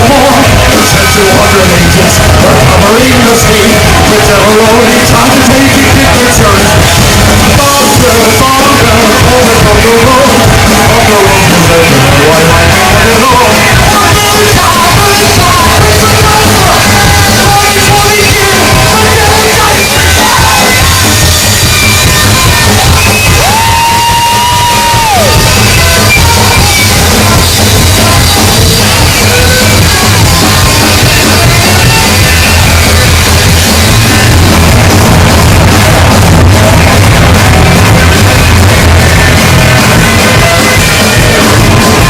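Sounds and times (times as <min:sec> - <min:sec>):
rockabilly band playing live: 0:00.0 - 0:42.0
singer yelling vocals: 0:00.0 - 0:42.0.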